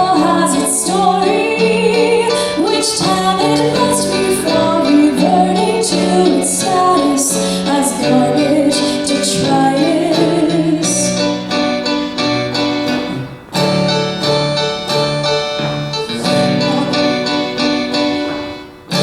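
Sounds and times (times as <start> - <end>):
sustained keyboard chords: 0.0 - 19.0.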